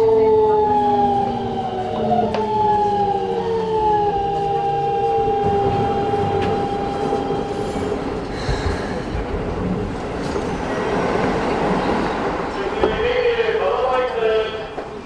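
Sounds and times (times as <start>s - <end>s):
electric train inverter whining: 0.0s - 15.0s
wheels rumbling on rail: 0.0s - 15.0s.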